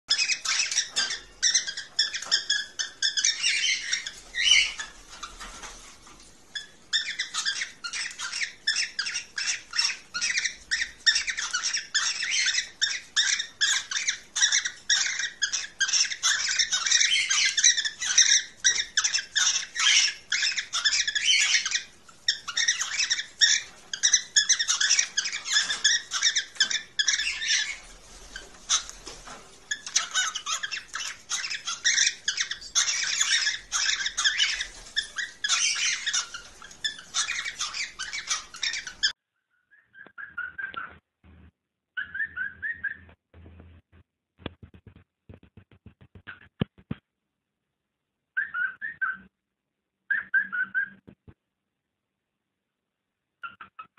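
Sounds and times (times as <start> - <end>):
cockatiels chirping and squawking: 0.1 - 41.0, 42.0 - 43.2, 48.4 - 49.3, 50.1 - 51.0, 53.4 - 53.9.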